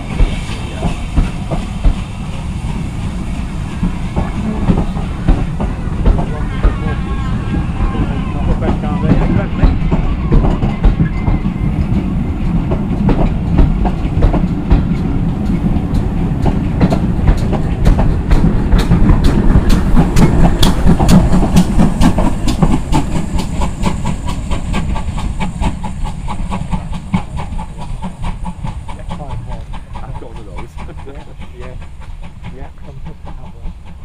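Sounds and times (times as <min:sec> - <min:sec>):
train rumbling by: 0:00.0 - 0:34.0.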